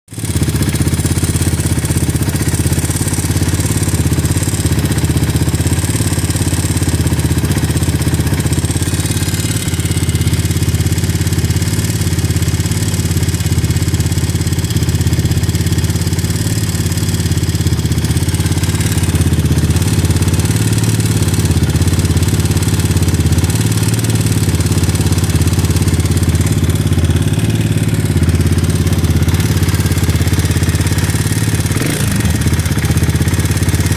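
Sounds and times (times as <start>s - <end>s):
engine knocking clatter: 0.1s - 33.9s
motorcycle engine idling unsteadily: 0.1s - 33.9s.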